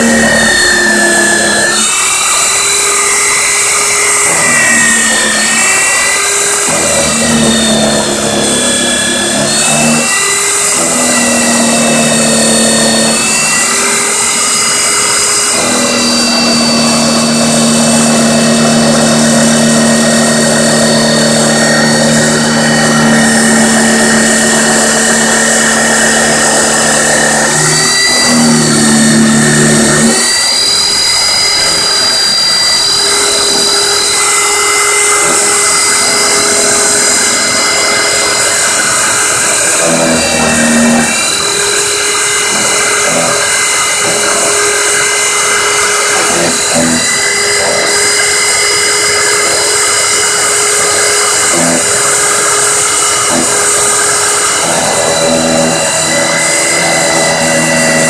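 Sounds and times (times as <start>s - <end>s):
milling machine cutting metal: 0.0s - 58.0s
spindle whine: 0.0s - 58.0s.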